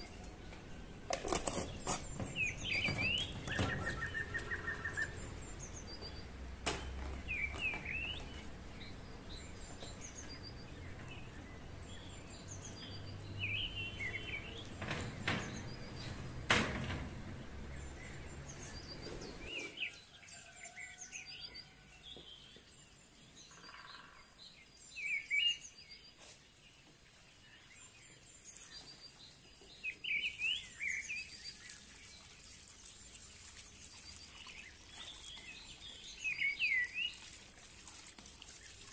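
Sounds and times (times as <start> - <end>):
small birds chirping: 0.0 - 16.4, 17.2 - 38.9.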